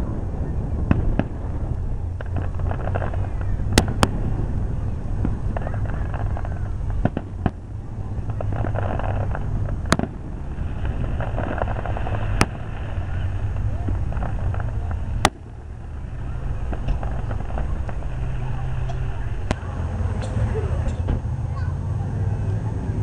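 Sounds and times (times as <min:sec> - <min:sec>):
fireworks bangs: 0:00.0 - 0:21.3
fireworks crackling: 0:00.0 - 0:21.3.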